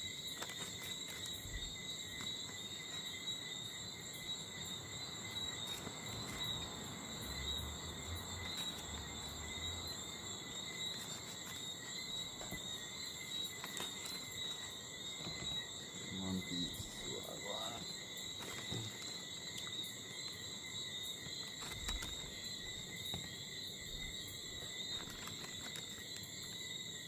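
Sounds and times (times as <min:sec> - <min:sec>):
night insects chirring: 0:00.0 - 0:27.0.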